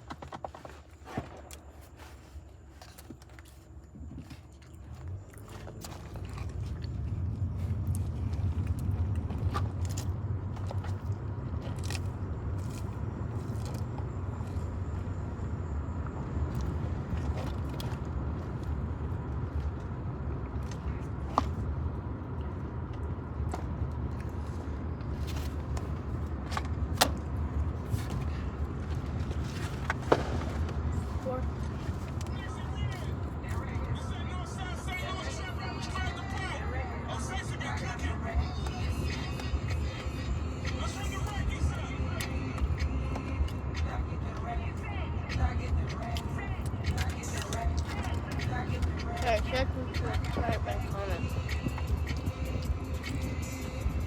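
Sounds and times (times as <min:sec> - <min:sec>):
chewing and crunching: 0:00.0 - 0:54.0
low rumble: 0:04.3 - 0:54.0.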